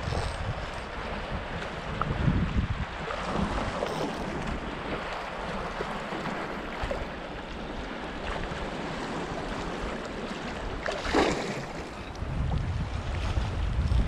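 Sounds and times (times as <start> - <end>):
small waves washing on rocks: 0.0 - 12.2
wind buffeting microphone: 0.0 - 14.0.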